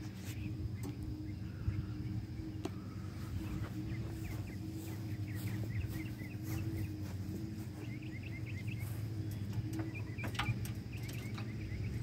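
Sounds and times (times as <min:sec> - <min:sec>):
low engine-like hum: 0:00.0 - 0:12.0
small birds chirping: 0:00.0 - 0:12.0.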